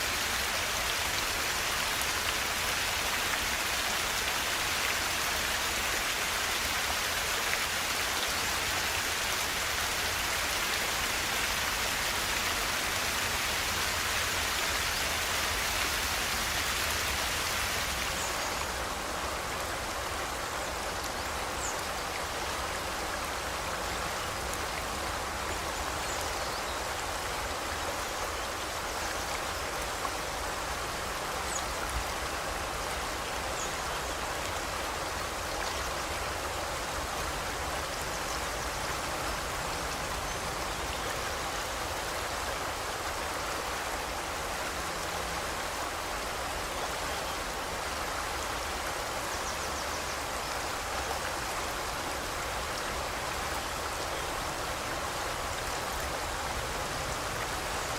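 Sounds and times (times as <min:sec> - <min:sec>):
river flowing over rocks: 0:00.0 - 0:57.9.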